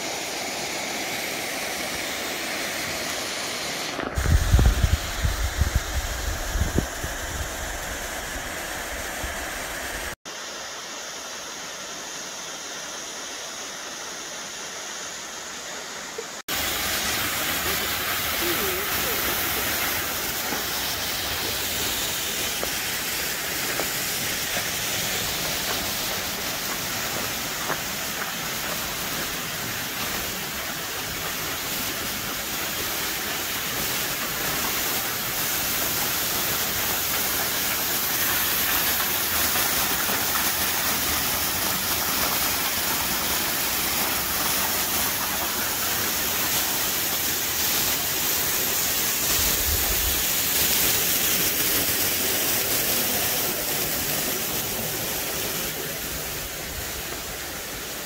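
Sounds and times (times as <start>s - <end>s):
waterfall rushing onto rock: 0.0s - 10.9s, 16.4s - 58.0s.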